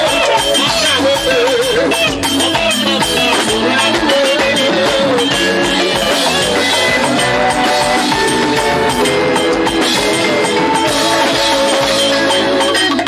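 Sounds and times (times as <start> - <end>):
drum kit: 0.0 - 13.0
tambourine-like percussion: 0.0 - 13.0
held melody notes: 0.6 - 13.0.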